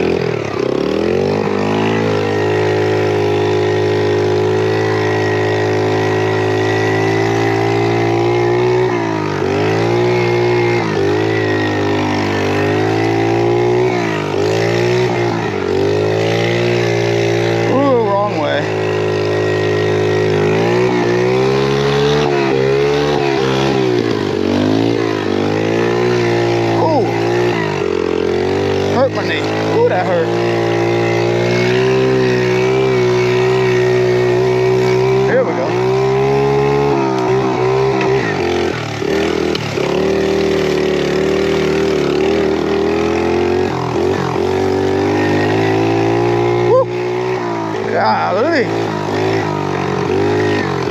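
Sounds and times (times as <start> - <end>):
pit bike engine revving: 0.0 - 50.9.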